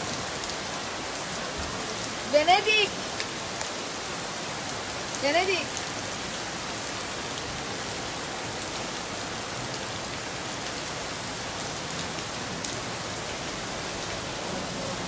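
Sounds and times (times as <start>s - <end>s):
rain on flooded street: 0.0s - 15.0s.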